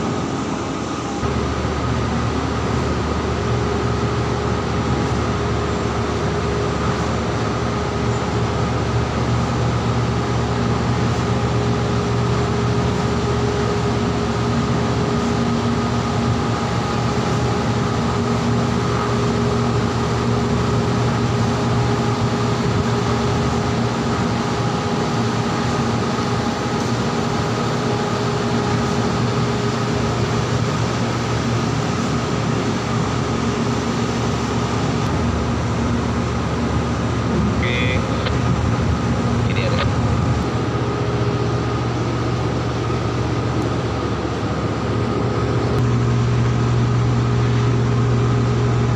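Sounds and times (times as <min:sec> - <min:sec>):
diesel machinery droning: 0:00.0 - 0:48.9.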